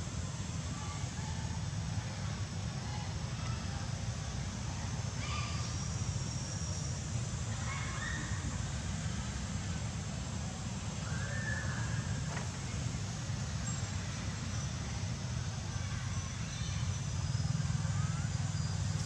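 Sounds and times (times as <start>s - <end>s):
outdoor hiss: 0.0s - 19.0s.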